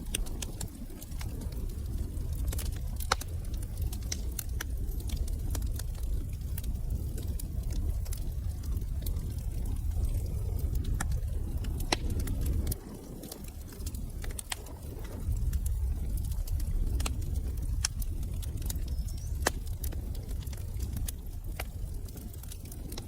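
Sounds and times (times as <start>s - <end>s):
flames rumbling: 0.0s - 23.0s
wood fire crackling: 0.0s - 23.0s.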